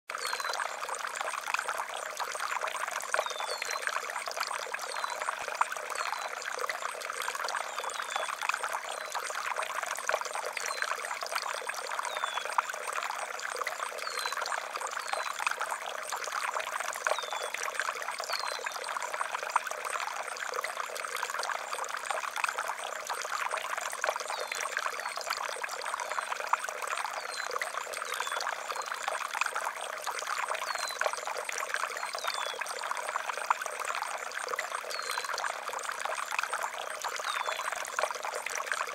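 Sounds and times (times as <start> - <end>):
water pouring and trickling: 0.1 - 38.9.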